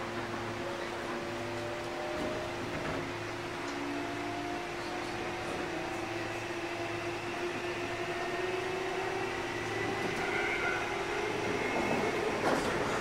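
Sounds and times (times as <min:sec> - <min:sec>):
rising traction motor whine: 0:00.0 - 0:12.4
train carriage rumble and hum: 0:00.0 - 0:13.0.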